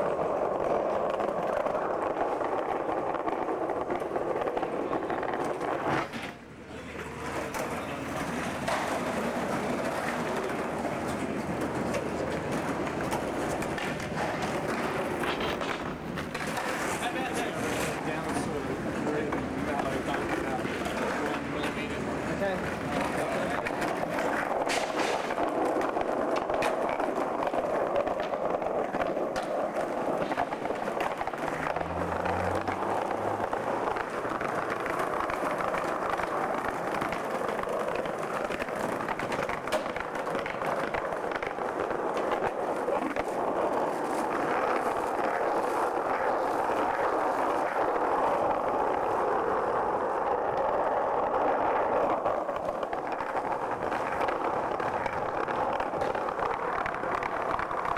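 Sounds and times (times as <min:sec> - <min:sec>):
skateboard wheels rolling on pavement: 0:00.0 - 0:57.9.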